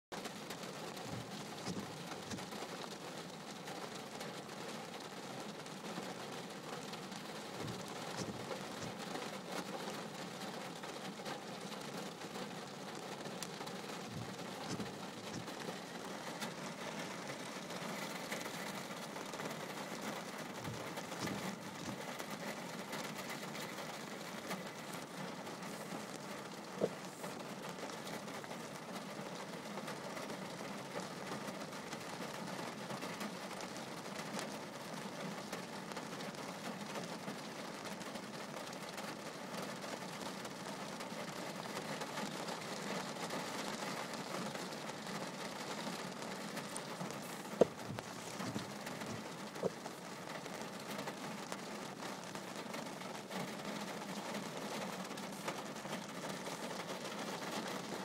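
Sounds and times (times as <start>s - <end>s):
rain drumming on a car roof: 0.1s - 58.0s.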